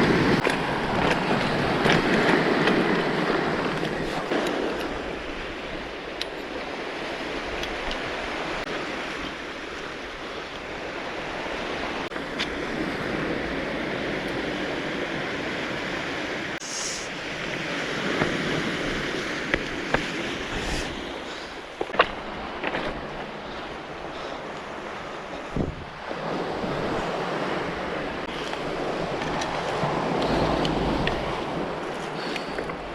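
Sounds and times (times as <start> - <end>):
waves washing on cobbles: 0.0 - 32.9.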